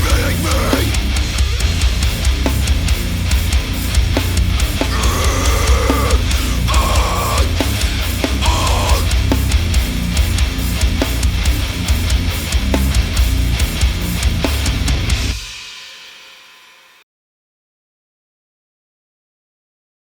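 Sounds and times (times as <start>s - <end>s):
heavy metal music: 0.0s - 16.8s.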